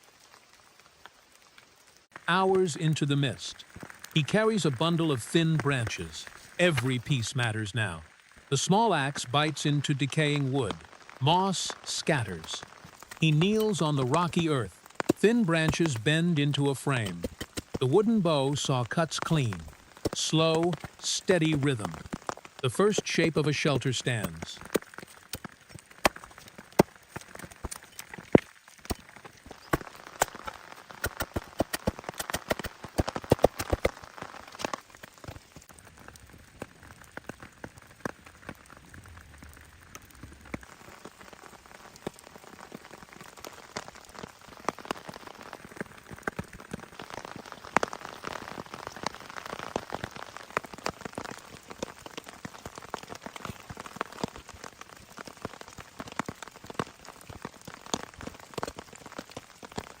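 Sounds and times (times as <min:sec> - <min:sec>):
rain drops ticking: 0:00.0 - 1:00.0.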